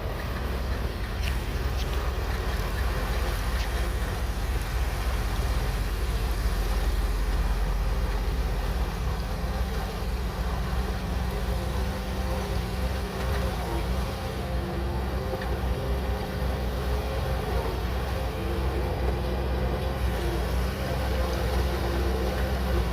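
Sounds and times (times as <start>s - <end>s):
bulldozer diesel engine droning: 0.0s - 22.9s.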